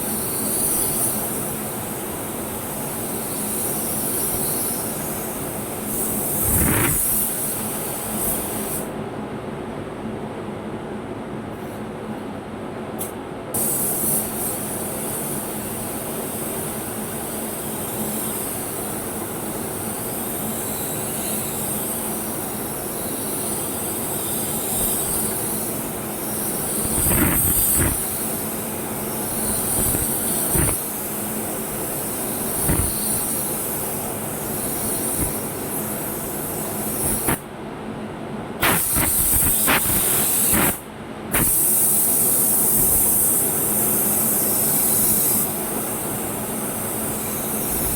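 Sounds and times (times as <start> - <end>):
paint spray gun hissing: 0.0 - 8.9, 13.6 - 37.4, 38.6 - 47.9.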